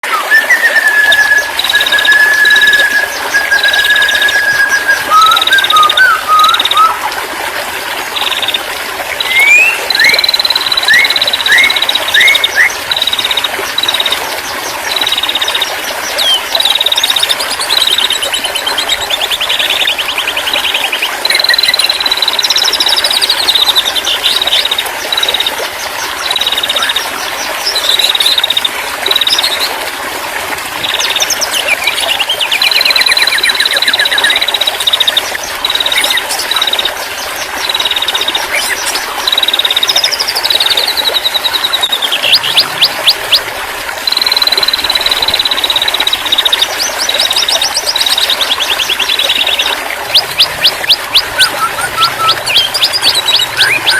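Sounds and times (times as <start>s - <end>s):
songbirds singing: 0.0s - 7.1s, 8.0s - 29.8s, 30.8s - 53.9s.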